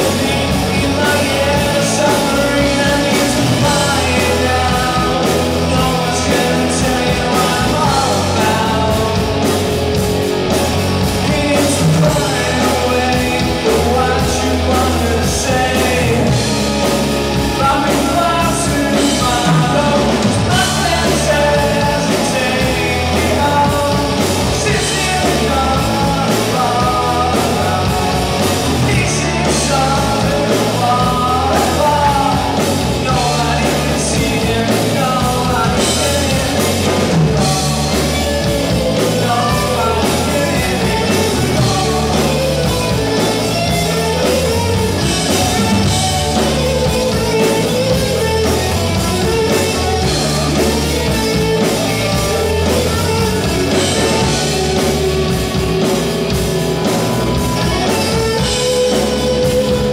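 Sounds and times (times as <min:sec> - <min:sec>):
man singing: 0:00.0 - 0:59.9
rock band playing live: 0:00.0 - 0:59.9.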